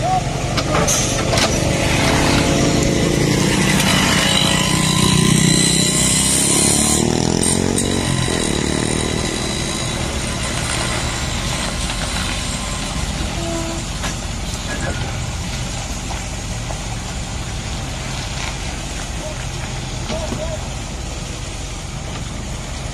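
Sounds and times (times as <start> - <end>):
diesel truck engine pulling: 0.0 - 22.9.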